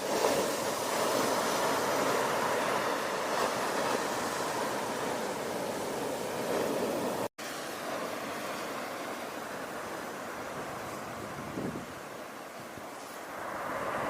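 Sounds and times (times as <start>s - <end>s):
ocean waves washing in: 0.0s - 14.0s.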